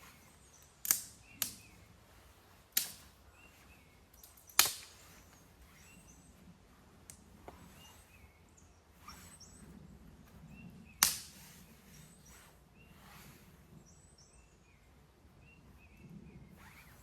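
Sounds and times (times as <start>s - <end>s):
soft rustling swishes: 0.0s - 0.8s, 1.6s - 13.8s, 16.1s - 17.0s
small birds chirping: 0.0s - 17.0s.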